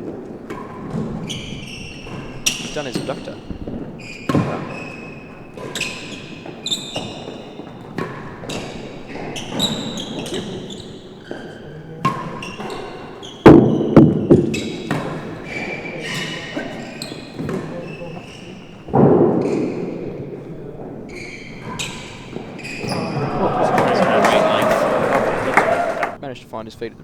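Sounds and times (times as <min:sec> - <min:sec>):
ball hitting walls and floor: 0:00.0 - 0:26.2
rackets striking ball: 0:00.0 - 0:26.2.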